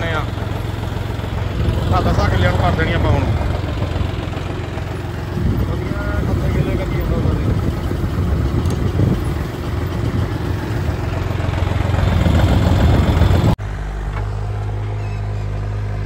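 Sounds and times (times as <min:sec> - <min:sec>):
tractor engine rattling: 0:00.0 - 0:16.0.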